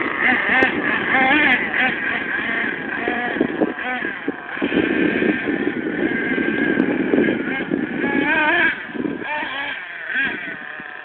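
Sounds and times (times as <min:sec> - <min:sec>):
distant car engine racing: 0:00.0 - 0:11.0.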